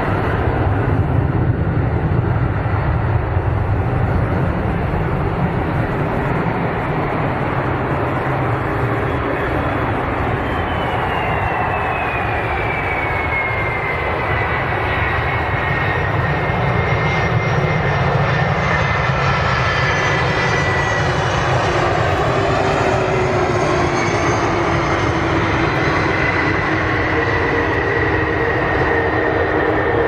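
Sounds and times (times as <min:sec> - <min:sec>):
jet engine whine: 0:00.0 - 0:30.0
jet engines rushing: 0:00.0 - 0:30.0.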